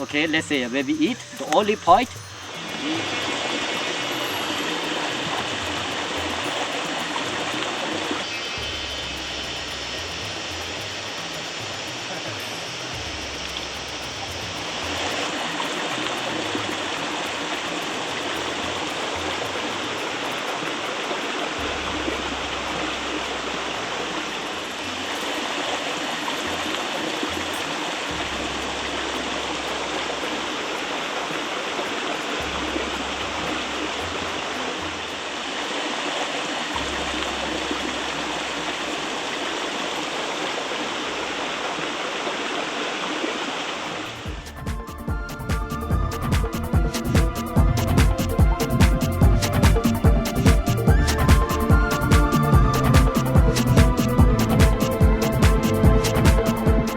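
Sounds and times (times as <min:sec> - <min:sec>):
flowing water rushing: 0:00.0 - 0:56.9.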